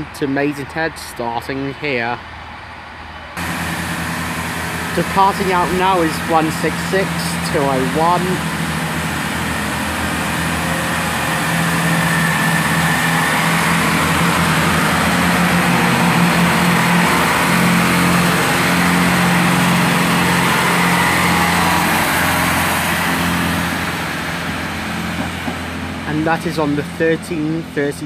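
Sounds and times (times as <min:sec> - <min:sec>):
diesel train engines droning: 0:00.0 - 0:28.0.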